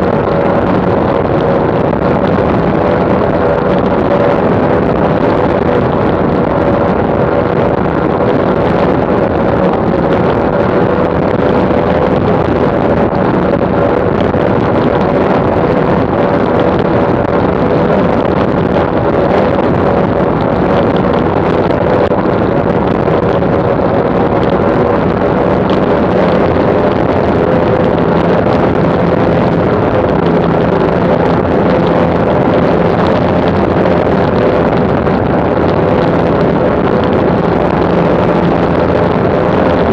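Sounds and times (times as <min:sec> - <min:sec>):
outboard engines running: 0:00.0 - 0:39.9
rush of wind and spray: 0:00.0 - 0:39.9.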